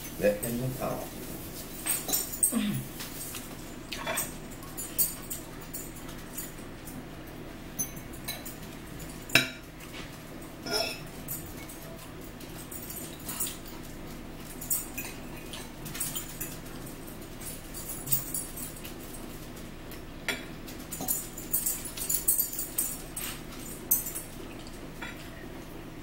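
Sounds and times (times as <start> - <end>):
forks clinking on plates: 1.8 - 7.0, 7.8 - 19.4, 20.2 - 25.4.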